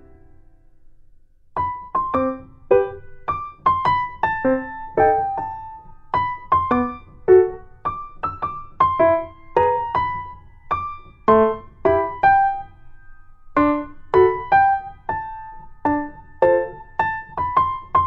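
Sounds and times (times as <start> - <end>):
electric piano melody: 1.6 - 18.0.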